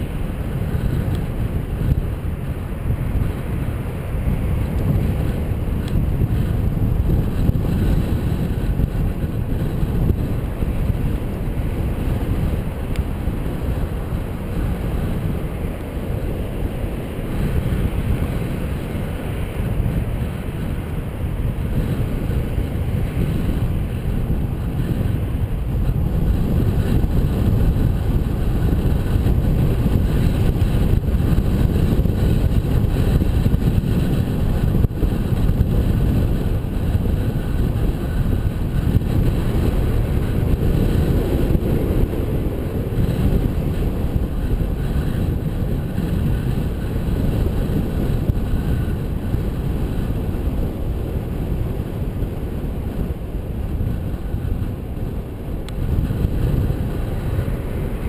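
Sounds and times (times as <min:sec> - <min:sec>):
bicycle tyre and road noise: 0:00.0 - 0:58.0
wind buffeting microphone: 0:00.0 - 0:58.0.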